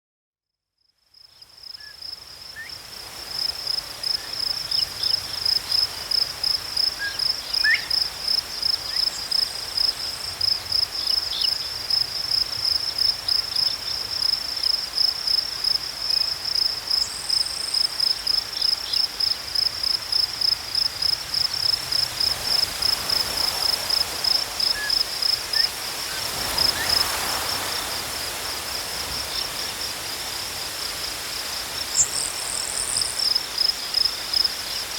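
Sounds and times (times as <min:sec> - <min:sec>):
insect chirping: 0:01.1 - 0:34.9
wind in tall grass: 0:01.4 - 0:34.9.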